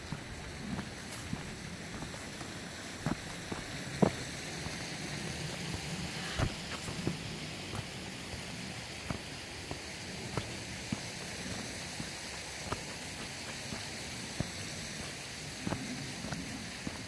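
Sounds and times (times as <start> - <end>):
footsteps on grass and stone: 0.0 - 17.0
steady hiss: 0.0 - 17.0.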